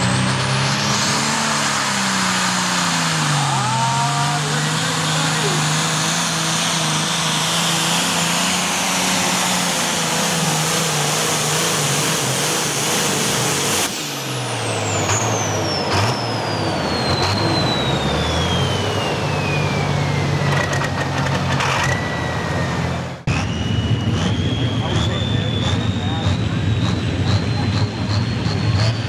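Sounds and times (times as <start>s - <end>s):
tractor engine running hard: 0.0s - 29.0s
high whine falling in pitch: 0.3s - 28.4s.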